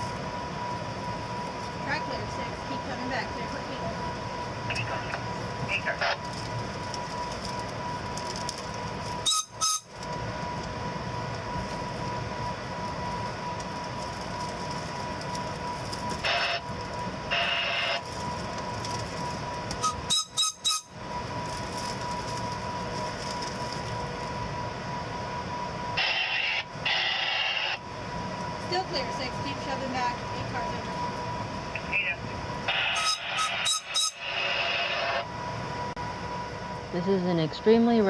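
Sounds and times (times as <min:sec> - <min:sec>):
train rumbling and hissing: 0:00.0 - 0:38.0.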